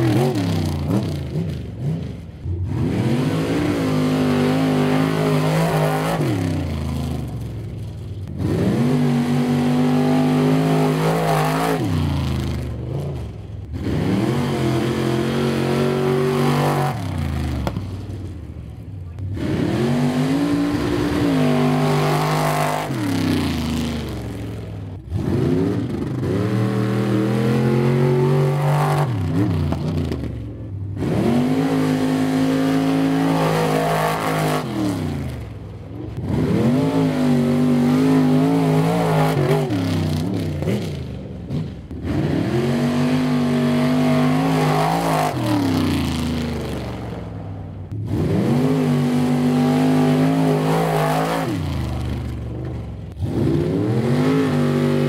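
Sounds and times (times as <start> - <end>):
truck engines revving hard: 0.0 - 55.0.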